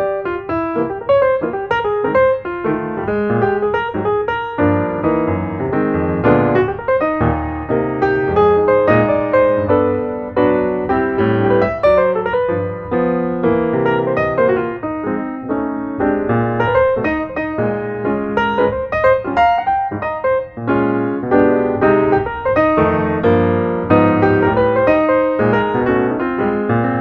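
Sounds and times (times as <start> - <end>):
piano playing quick notes: 0.0 - 27.0.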